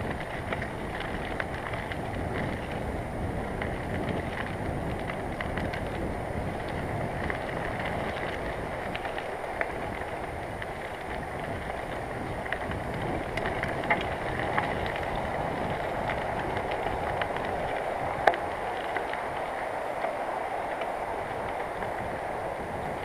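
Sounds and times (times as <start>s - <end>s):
bicycle clicks and rattles: 0.0s - 23.0s
bicycle tyres rolling: 0.0s - 23.0s.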